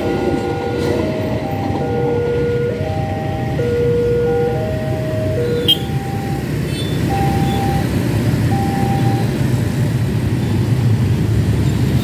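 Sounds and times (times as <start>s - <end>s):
motorcycles and minibus engines: 0.0s - 12.0s.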